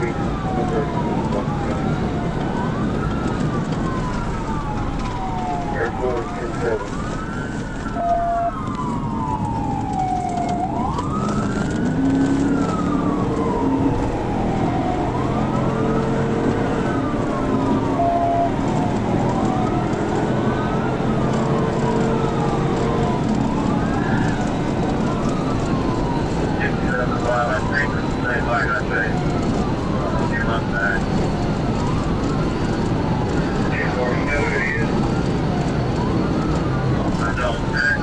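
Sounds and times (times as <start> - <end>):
car engine and road noise: 0.0 - 38.0
police siren wailing: 0.0 - 38.0.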